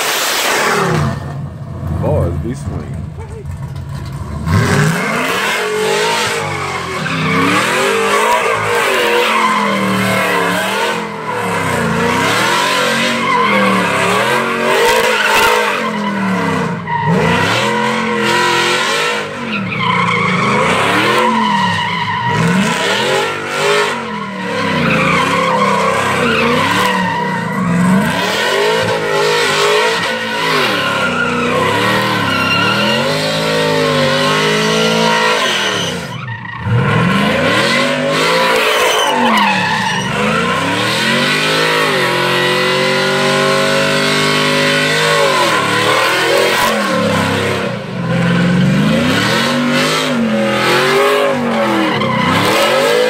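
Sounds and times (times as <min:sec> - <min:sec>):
tires squealing on concrete: 0:00.0 - 0:53.0
truck engine revving: 0:00.0 - 0:53.0.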